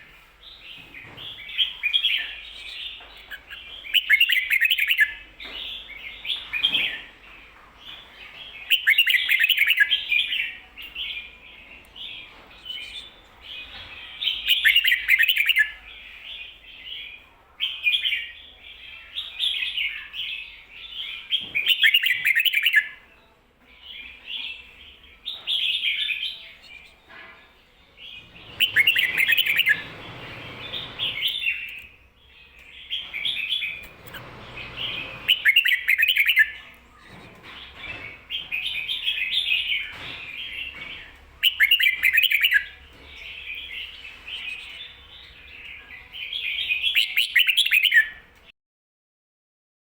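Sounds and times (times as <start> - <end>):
bird singing warbling phrases: 0.6 - 7.2, 7.9 - 23.0, 28.0 - 48.3.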